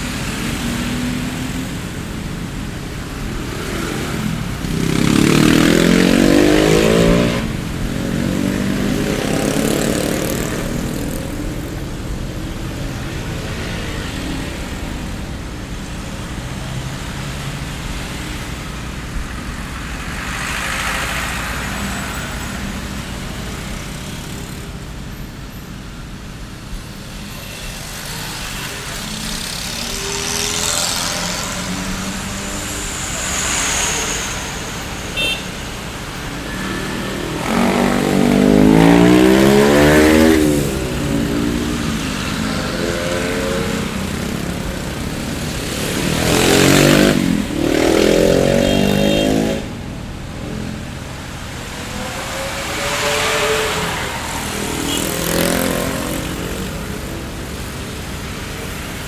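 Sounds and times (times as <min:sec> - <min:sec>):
street traffic: 0:00.0 - 0:59.0.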